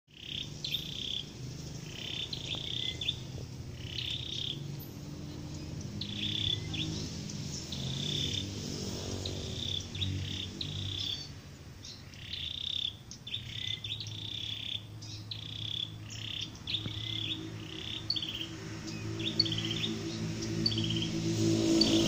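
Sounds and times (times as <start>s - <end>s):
continuous low drone: 0.1s - 22.0s.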